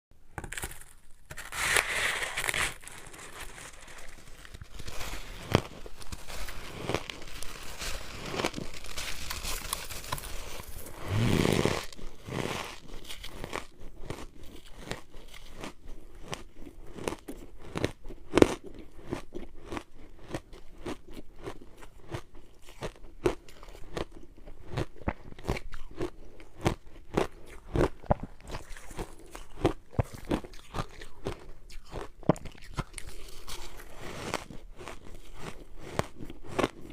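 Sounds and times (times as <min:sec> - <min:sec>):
snow crunching while chewed: 0:01.4 - 0:24.1, 0:24.7 - 0:36.9.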